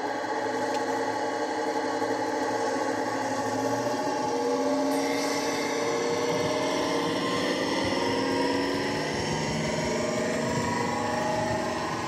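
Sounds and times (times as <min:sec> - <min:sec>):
diesel engine note through small speaker: 0:00.0 - 0:12.0.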